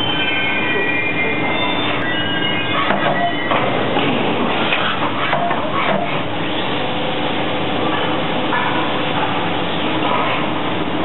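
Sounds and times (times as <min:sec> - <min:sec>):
machining center whirring: 0:00.0 - 0:11.0.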